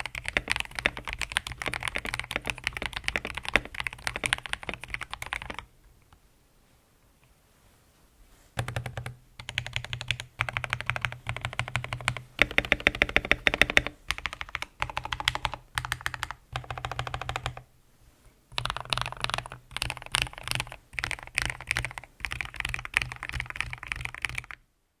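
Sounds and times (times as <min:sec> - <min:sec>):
mechanical keyboard typing: 0:00.0 - 0:05.7, 0:08.6 - 0:17.6, 0:18.6 - 0:24.6.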